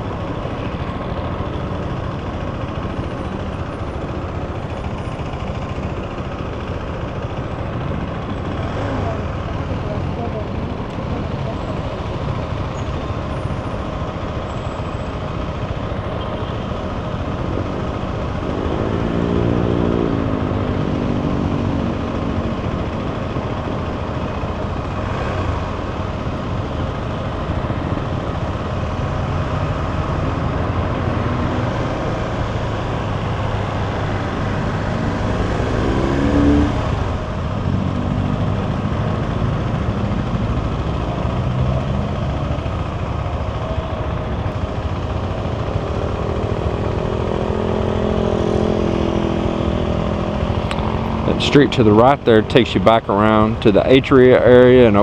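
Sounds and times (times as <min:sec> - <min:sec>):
city traffic: 0:00.0 - 0:55.0
motorcycle engine and road noise: 0:00.0 - 0:55.0.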